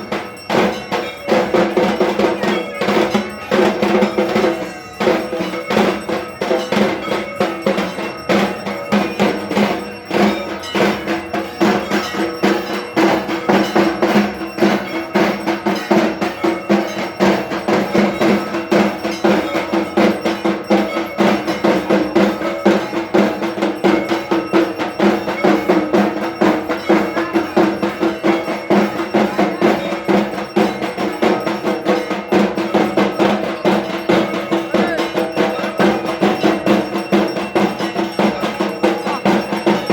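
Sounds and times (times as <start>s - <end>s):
clanging metal bells: 0.0s - 39.9s
drums beaten fast: 0.0s - 39.9s.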